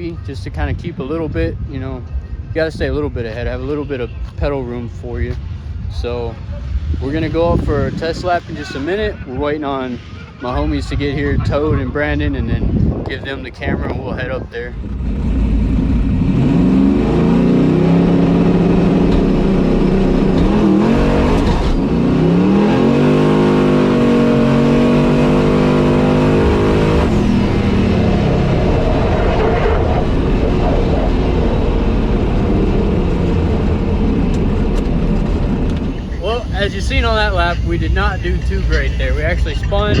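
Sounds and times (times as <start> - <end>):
drag racing engine full throttle: 0.0 - 40.0.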